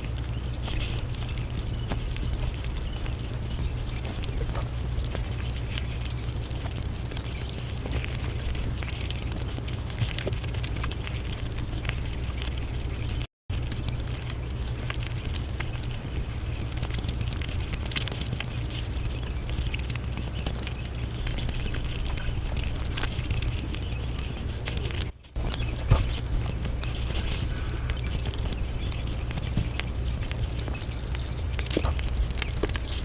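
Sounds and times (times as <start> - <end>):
sped-up wet chewing sounds: 0.0 - 33.0.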